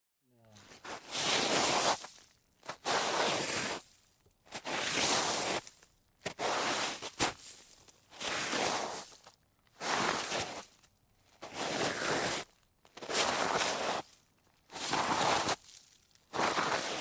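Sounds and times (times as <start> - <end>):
sliding scrapes over snow: 0.6 - 5.7, 6.3 - 9.2, 9.8 - 10.7, 11.4 - 17.0.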